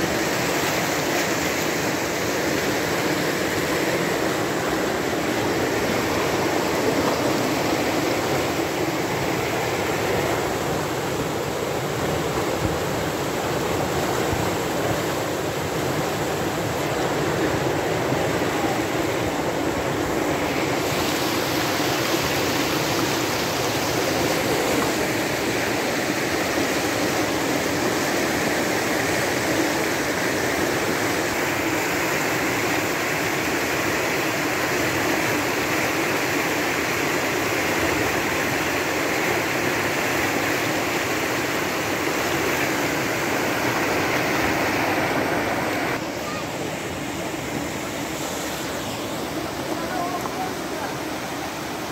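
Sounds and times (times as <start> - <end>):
flood water rushing: 0.0 - 51.9.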